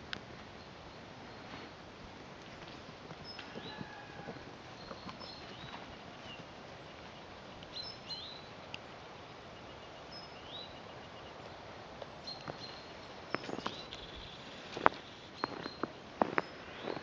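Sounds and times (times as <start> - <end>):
faint outdoor background noise: 0.0 - 17.0
small birds chirping: 2.4 - 17.0.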